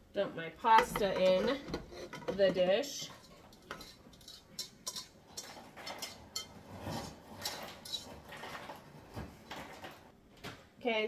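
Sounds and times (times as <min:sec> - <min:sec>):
cookware clinking and scraping: 0:00.7 - 0:10.0.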